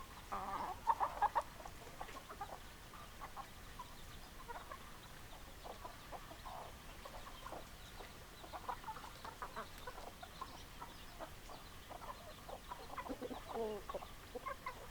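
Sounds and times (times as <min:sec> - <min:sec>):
hens clucking: 0:00.2 - 0:14.9.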